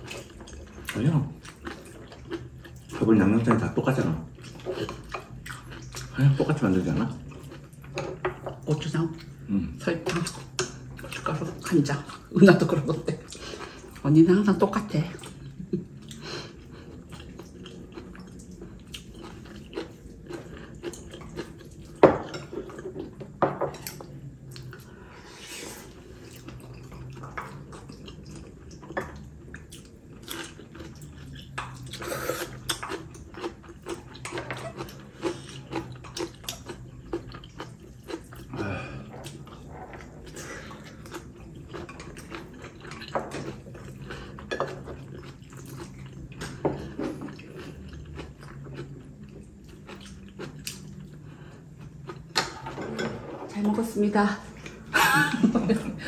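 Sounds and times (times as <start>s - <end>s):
wet chewing and slurping: 0.0s - 14.1s, 15.2s - 52.9s
low steady hum: 0.0s - 56.0s.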